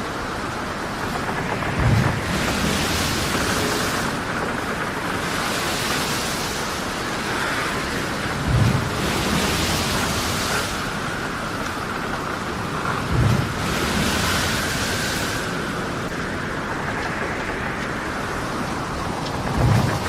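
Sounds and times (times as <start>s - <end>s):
rain: 0.0s - 20.0s
waves: 0.0s - 20.0s
wind rushing: 1.1s - 20.0s.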